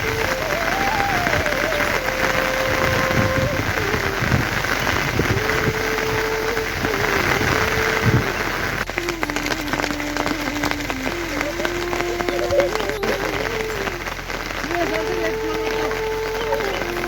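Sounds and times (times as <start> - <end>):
faint held tone changing pitch: 0.0 - 17.0
heavy rain falling: 0.0 - 17.0.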